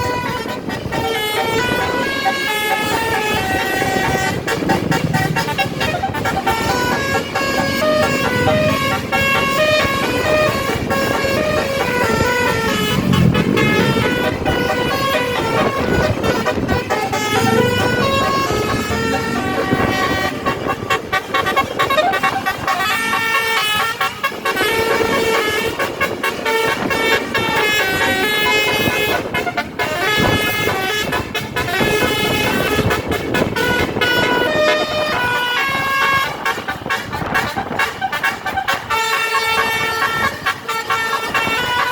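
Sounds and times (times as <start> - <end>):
musical air horn melody: 0.0 - 41.9.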